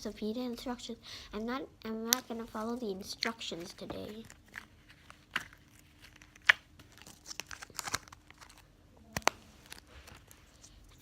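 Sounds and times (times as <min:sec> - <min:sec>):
slime and plastic containers crackling: 0:01.9 - 0:11.0.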